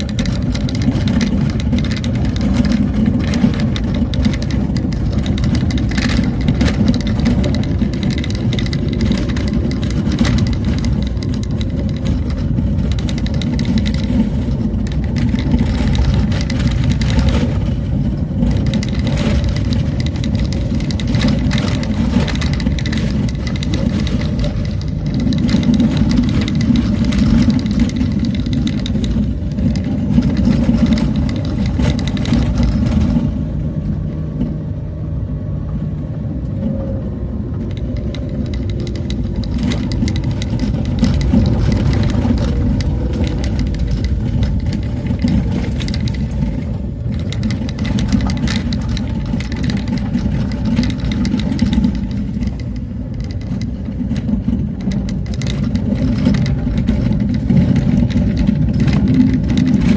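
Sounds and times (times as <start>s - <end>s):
small knocks and rattles: 0.0s - 34.6s, 37.4s - 59.9s
vehicle engine and road hum: 0.0s - 59.9s.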